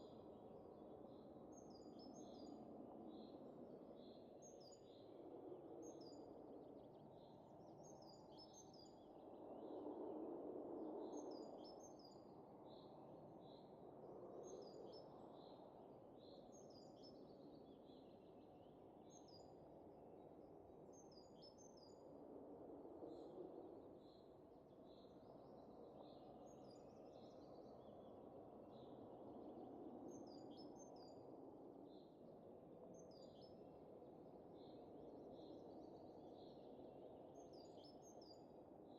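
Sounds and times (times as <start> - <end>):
faint wind gusts: 0.1 - 38.9.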